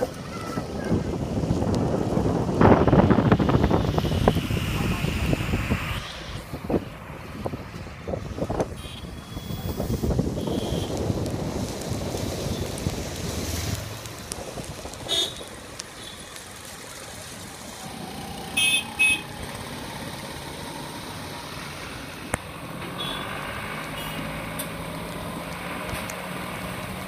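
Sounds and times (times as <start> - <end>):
road and engine noise: 0.0 - 27.0.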